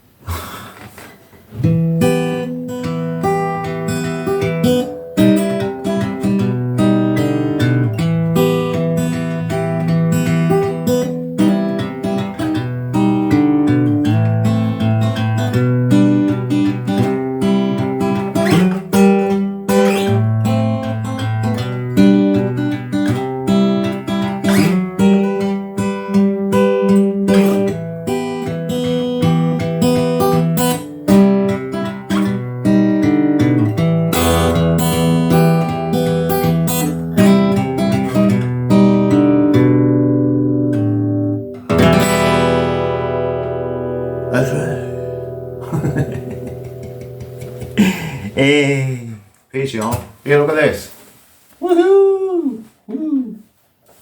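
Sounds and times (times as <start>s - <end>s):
acoustic guitar playing: 1.1s - 49.0s.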